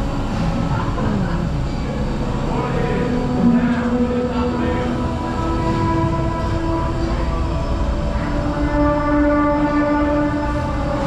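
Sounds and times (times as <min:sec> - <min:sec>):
deep rumble: 0:00.0 - 0:11.0
long held synth notes: 0:00.0 - 0:11.0.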